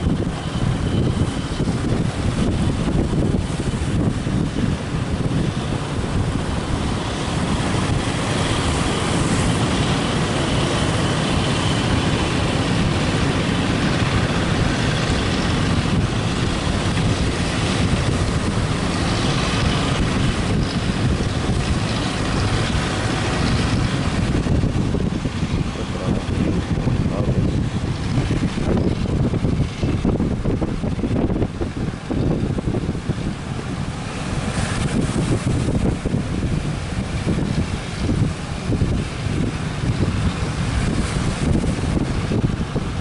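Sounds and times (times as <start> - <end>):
boat engine running: 0.0 - 43.0
wind buffeting microphone: 0.0 - 43.0.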